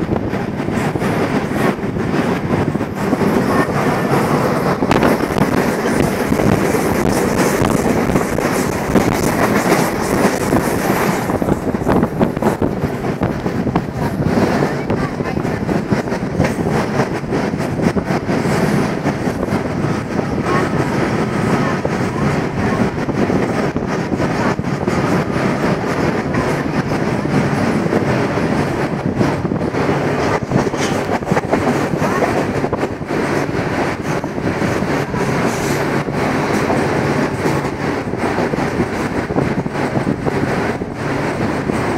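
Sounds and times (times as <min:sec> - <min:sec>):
rail clatter: 0:00.0 - 0:41.9
train running rumble: 0:00.0 - 0:41.9.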